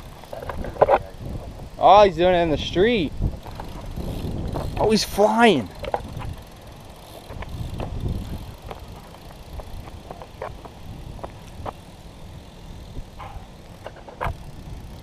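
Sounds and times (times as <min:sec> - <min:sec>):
wind on microphone: 0:00.0 - 0:06.5, 0:07.2 - 0:15.0
bike clicks and squeaks: 0:00.0 - 0:15.0
bike rolling on asphalt: 0:00.0 - 0:15.0.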